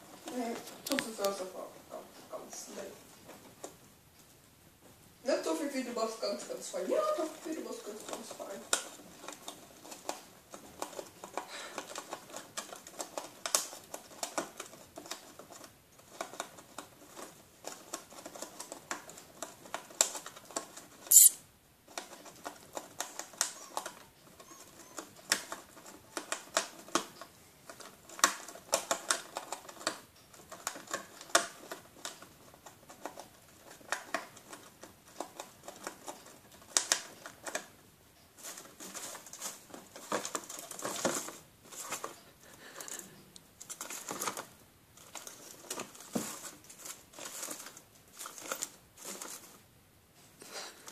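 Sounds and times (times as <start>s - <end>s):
gerbil gnawing cardboard: 0.0s - 3.8s, 5.4s - 21.1s, 21.8s - 49.8s.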